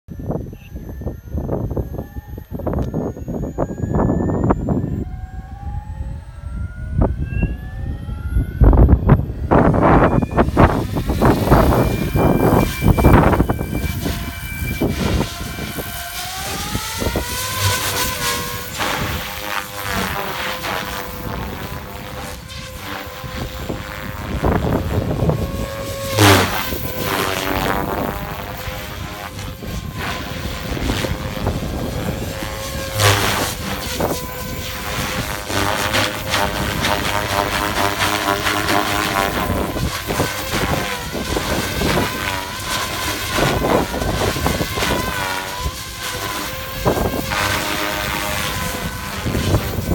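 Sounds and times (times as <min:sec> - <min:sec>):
rc helicopter rotor whine: 0:00.1 - 0:49.9
wind buffeting microphone: 0:00.1 - 0:49.9.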